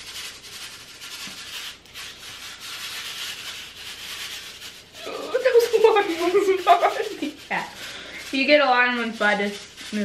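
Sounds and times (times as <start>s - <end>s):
paper packets crinkling: 0.0s - 10.0s
seeds rustling onto soil: 0.0s - 10.0s.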